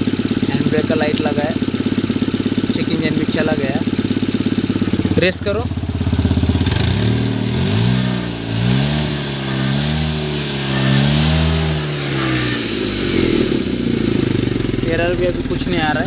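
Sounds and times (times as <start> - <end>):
car engine revving: 0.0 - 16.0
exhaust puttering: 0.0 - 16.0.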